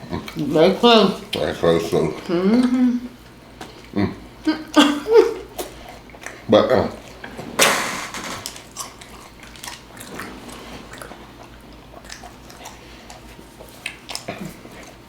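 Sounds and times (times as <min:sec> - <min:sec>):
crunchy food being chewed: 0:00.0 - 0:07.6, 0:08.4 - 0:15.0.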